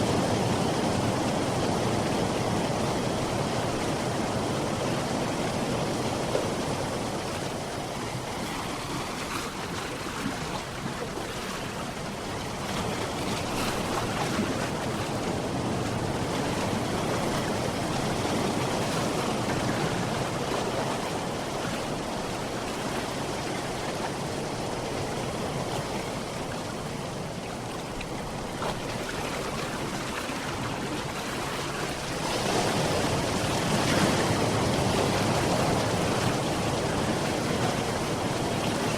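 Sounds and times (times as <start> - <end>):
sea waves washing: 0.0 - 38.9.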